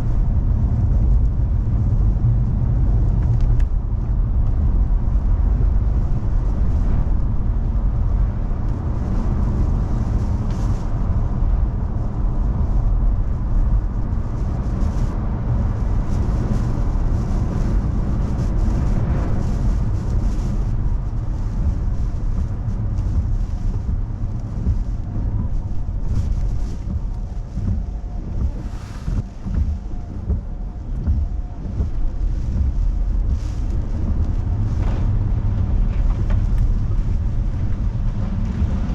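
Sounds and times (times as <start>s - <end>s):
car engine and road rumble: 0.0s - 38.9s
wind gusting against car: 0.0s - 38.9s.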